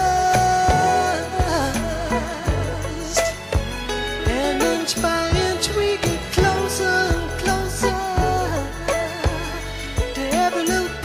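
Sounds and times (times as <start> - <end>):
song with steady beat: 0.0 - 11.0.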